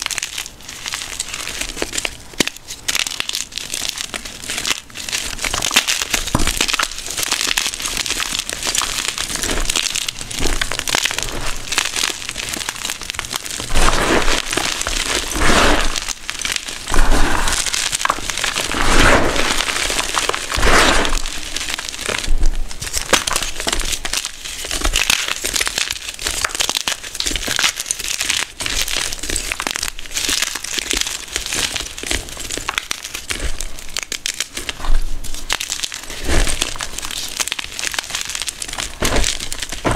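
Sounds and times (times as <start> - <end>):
chalk blocks crunching: 0.0 - 39.9.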